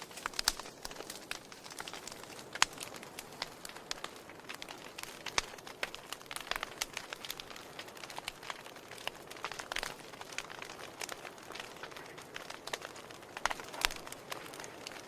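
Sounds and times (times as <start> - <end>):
soft hiss of fire: 0.0 - 15.0
wood fire crackling and popping: 0.0 - 15.0.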